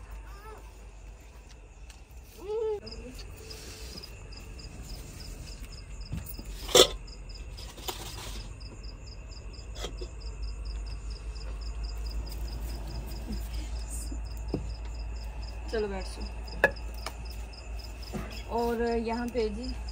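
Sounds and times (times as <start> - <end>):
crickets chirping: 0.0 - 19.9.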